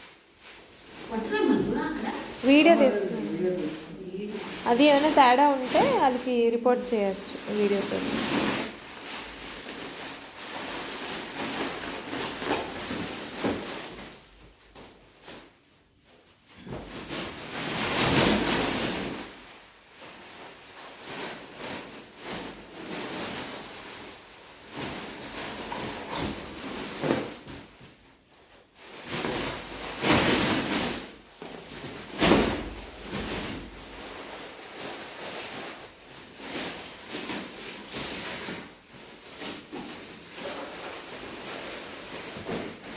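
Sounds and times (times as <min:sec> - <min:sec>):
plastic packaging rustling: 0:00.0 - 0:42.9.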